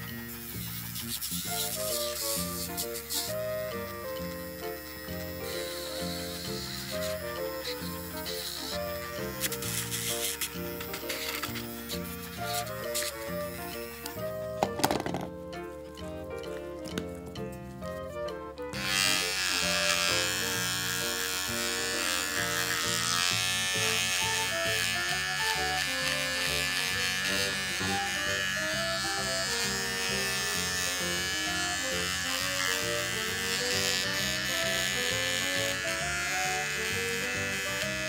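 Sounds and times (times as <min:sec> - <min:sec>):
background music: 0:00.0 - 0:38.0
electric hair trimmer buzzing: 0:00.0 - 0:38.0.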